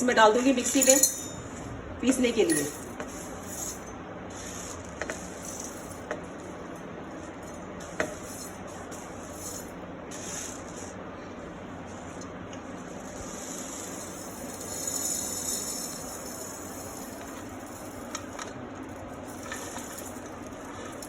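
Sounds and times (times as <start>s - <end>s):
room noise: 0.0s - 21.0s
dry spices rustling: 2.6s - 21.0s.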